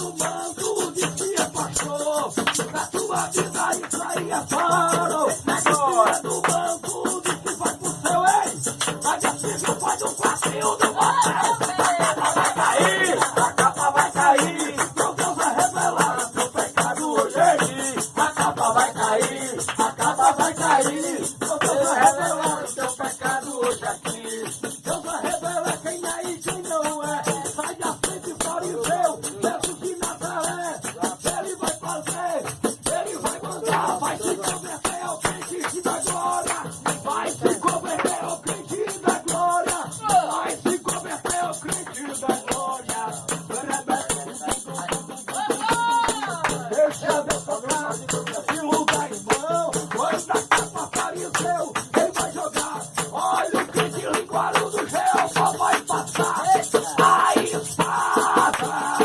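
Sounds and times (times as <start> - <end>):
rattling percussion beat: 0.0 - 59.0
voices singing: 0.0 - 59.0.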